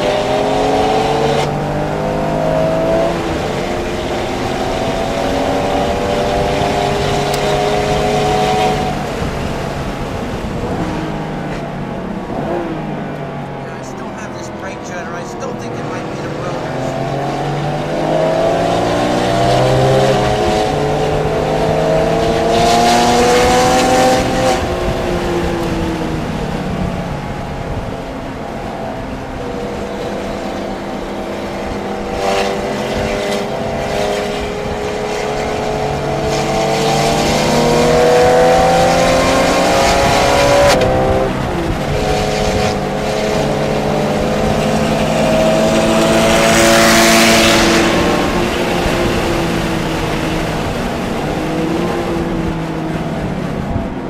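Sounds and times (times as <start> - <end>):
car engine accelerating and shifting: 0.0 - 54.0
wind rush: 2.5 - 54.0.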